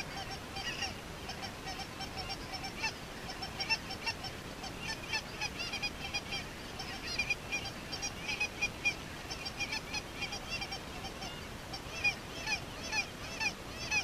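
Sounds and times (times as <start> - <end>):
geese calling: 0.0 - 14.0.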